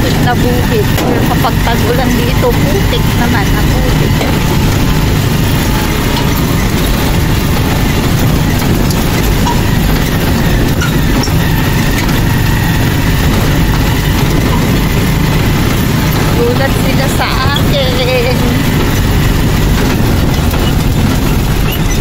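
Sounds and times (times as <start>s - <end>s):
motorcycle engine running: 0.0s - 22.0s
rumble of riding on dirt road: 0.0s - 22.0s.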